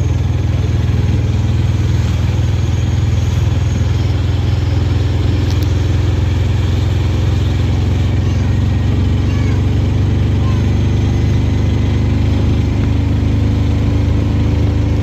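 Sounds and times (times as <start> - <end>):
auto-rickshaw engine running: 0.0 - 15.0
road noise: 0.0 - 15.0.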